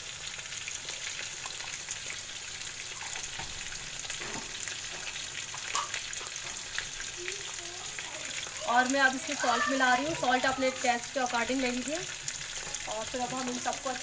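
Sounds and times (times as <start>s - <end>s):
gravy sizzling with crackles: 0.0s - 14.0s.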